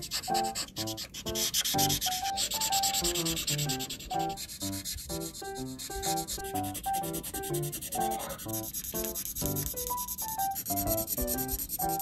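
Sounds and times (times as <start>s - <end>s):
fast scratchy ticking rhythm: 0.0s - 12.0s.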